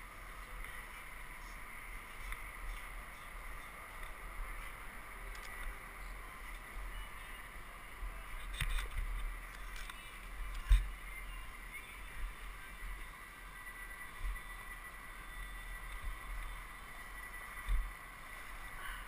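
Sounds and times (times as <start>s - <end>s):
muffled low rumble: 0.0s - 19.0s.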